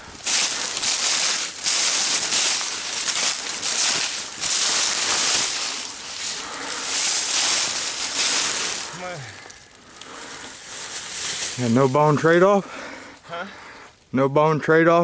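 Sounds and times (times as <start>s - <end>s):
footsteps crunching through dry leaves: 0.0s - 12.7s.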